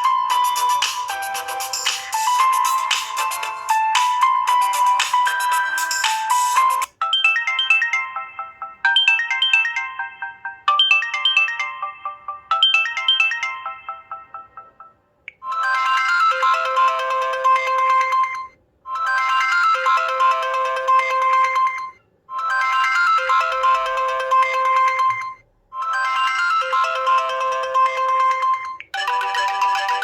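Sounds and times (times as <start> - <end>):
bell-like ringtone melody: 0.0 - 30.0
bright phone ringtone: 0.0 - 30.0.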